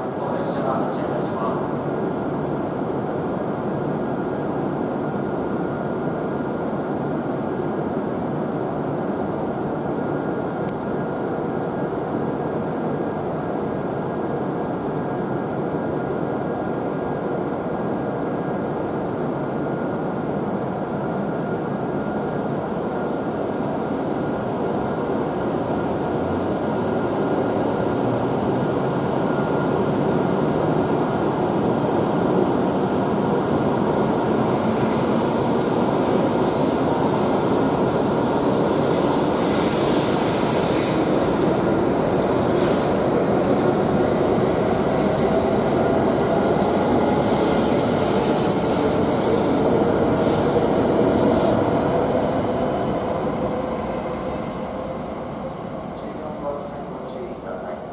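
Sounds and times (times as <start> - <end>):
train humming: 0.0 - 57.9.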